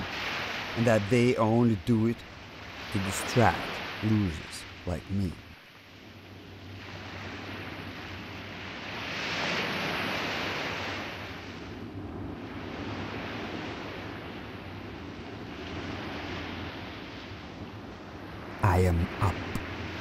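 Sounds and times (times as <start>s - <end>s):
surf breaking on a beach: 0.0s - 5.1s, 6.7s - 20.0s.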